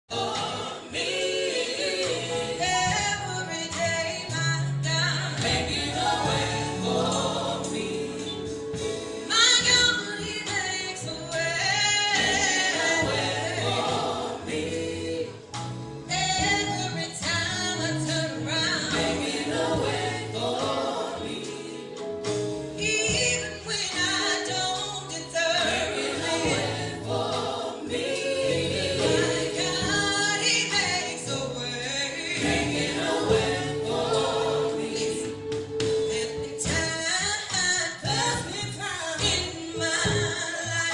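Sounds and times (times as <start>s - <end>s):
bass accompaniment: 0.1s - 40.9s
vocal group singing in harmony: 0.1s - 40.9s.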